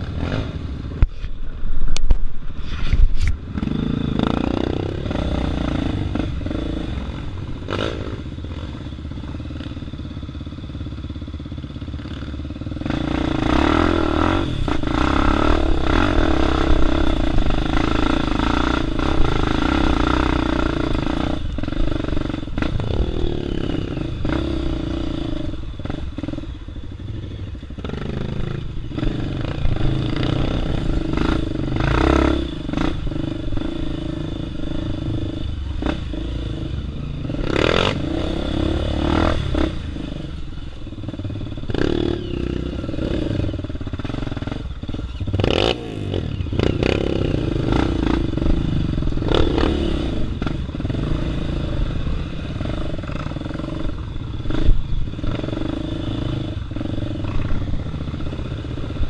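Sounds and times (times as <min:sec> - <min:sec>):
dirt bike engine running: 0:03.4 - 0:59.0.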